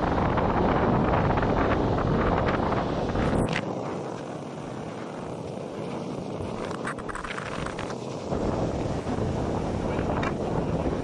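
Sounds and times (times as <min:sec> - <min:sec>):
distant military jet rumble: 0:00.0 - 0:11.0
waves washing: 0:00.0 - 0:11.0
wind: 0:00.0 - 0:11.0.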